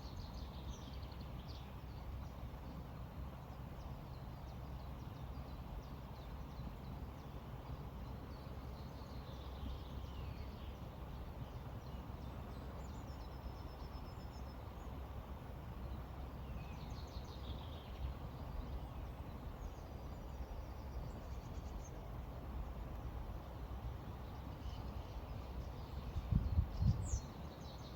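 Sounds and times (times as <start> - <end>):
small birds singing: 3.0 - 27.9.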